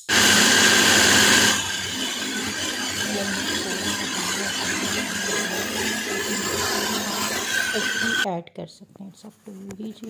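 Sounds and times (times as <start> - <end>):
electric chopper motor whirring: 0.0 - 8.2.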